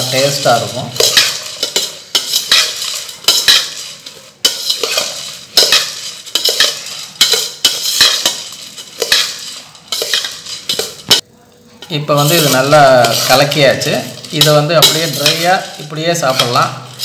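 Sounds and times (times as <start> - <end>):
puffed rice rustling: 0.0 - 11.2, 12.0 - 17.0
spoon scraping steel bowl: 0.0 - 11.2, 11.8 - 17.0.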